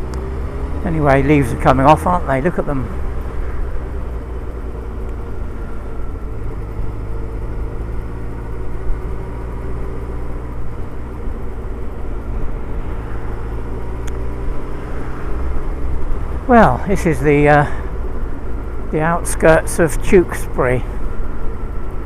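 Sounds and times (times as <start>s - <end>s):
motorcycle engine cruising: 0.0s - 22.0s
road and wind noise: 0.0s - 22.0s.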